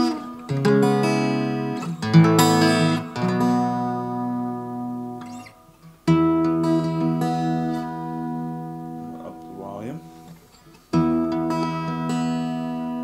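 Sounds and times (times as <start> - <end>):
acoustic guitar chords with reverb: 0.0 - 13.0.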